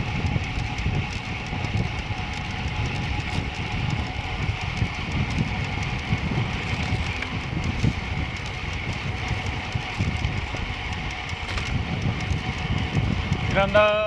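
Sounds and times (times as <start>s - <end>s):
tyres rolling on pavement: 0.0s - 14.0s
wind buffeting microphone: 0.0s - 14.0s.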